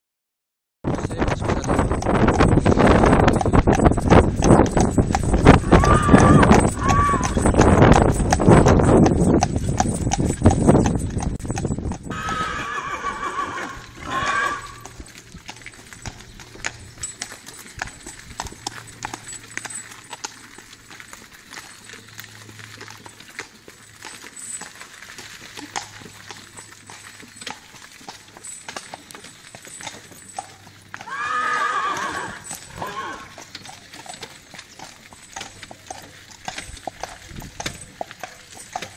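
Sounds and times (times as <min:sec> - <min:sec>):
hooves clip-clopping on asphalt: 0:00.8 - 0:38.9.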